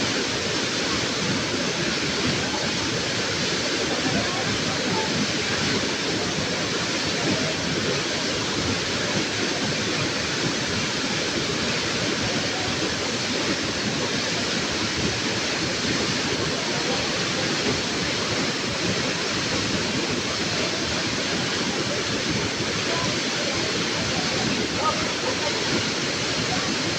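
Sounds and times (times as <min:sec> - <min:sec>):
rushing water: 0:00.0 - 0:26.9.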